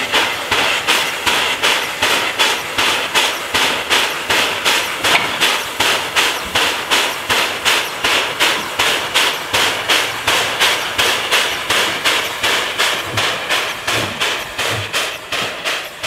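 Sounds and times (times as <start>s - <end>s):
steam locomotive exhaust chuffing: 0.0s - 16.0s.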